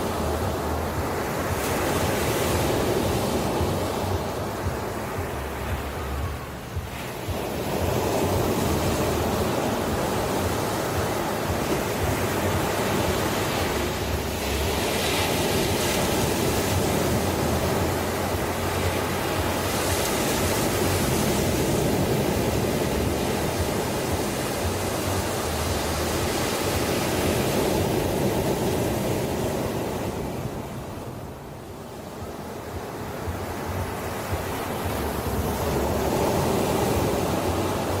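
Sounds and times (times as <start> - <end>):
ocean surf washing on shore: 0.0 - 38.0.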